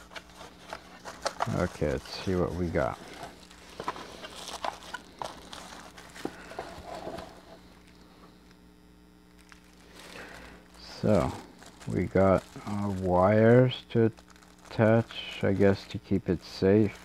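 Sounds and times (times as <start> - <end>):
plastic bags crinkling: 0.0 - 8.6, 9.2 - 17.0
faint steady hum: 0.0 - 17.0.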